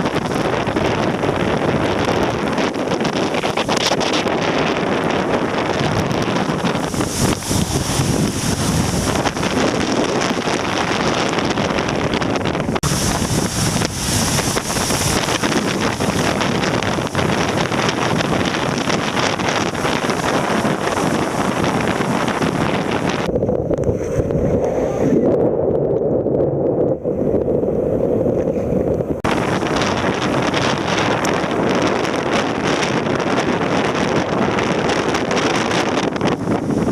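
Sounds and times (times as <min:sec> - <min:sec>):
rushing water: 0:00.0 - 0:26.0, 0:26.9 - 0:36.9
wind buffeting microphone: 0:00.0 - 0:36.9.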